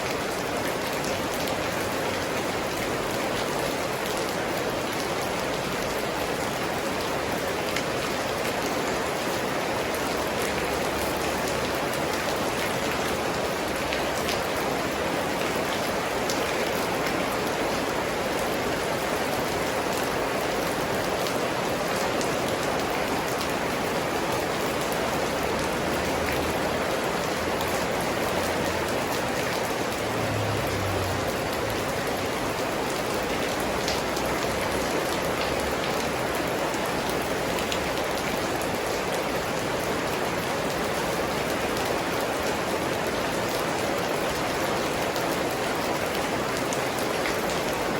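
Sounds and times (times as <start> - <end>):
steady rain hiss: 6.0 - 47.9.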